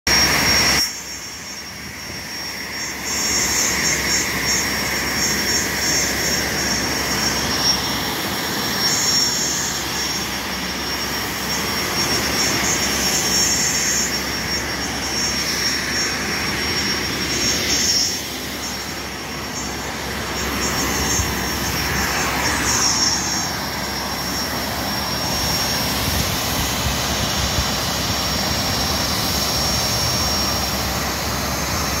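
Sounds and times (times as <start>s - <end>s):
high-pitched engine whine: 0.1s - 32.0s
turbine engine running: 0.1s - 32.0s.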